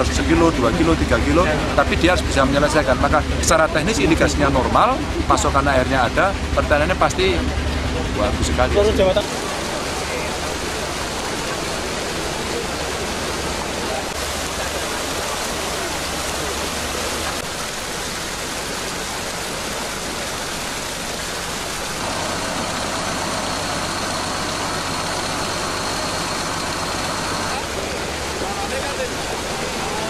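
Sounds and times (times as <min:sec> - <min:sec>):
engines humming: 0:00.0 - 0:30.0
water gushing from pipes: 0:00.0 - 0:30.0.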